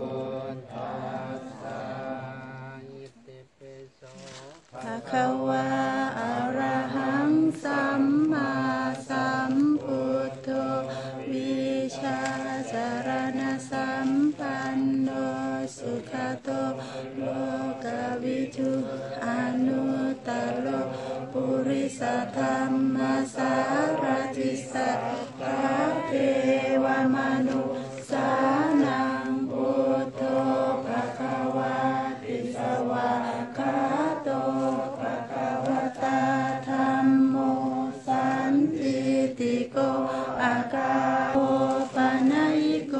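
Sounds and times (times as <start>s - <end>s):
group chanting in unison: 0.0s - 42.9s.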